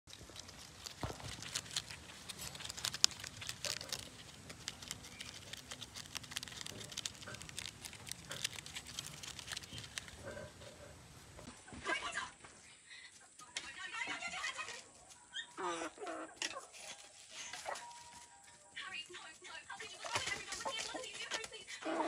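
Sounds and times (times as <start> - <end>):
rabbit chewing leaves: 0.0 - 12.3, 13.4 - 22.0.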